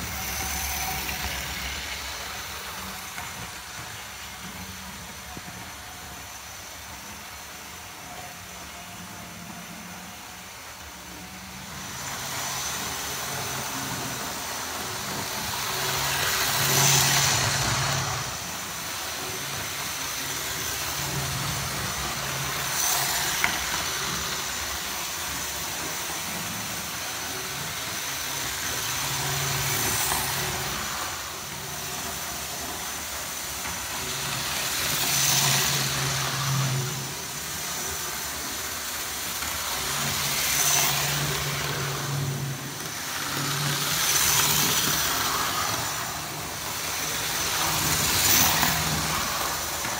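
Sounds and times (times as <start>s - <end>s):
model train motor hum: 0.0s - 49.9s
model train wheel rumble: 0.0s - 49.9s.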